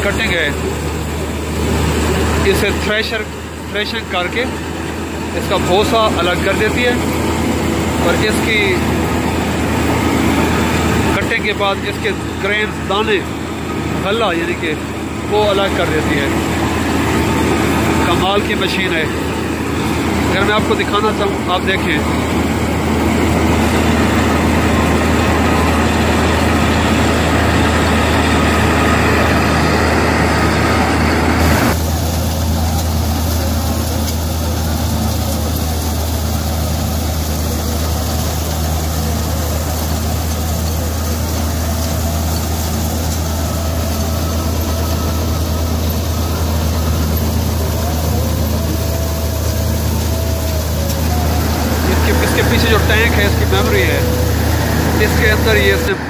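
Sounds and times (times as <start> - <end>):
combine harvester engine drone: 0.0 - 56.0
working machinery noise: 0.0 - 56.0.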